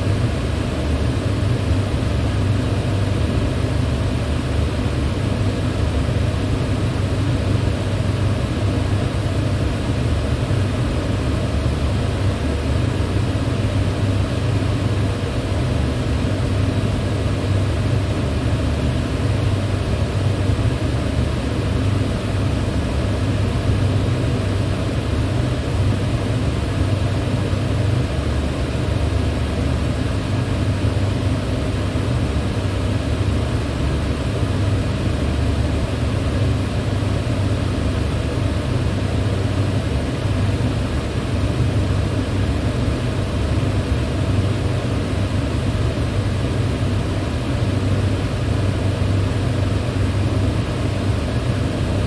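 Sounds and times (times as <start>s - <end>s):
electric fan running: 0.0s - 52.0s.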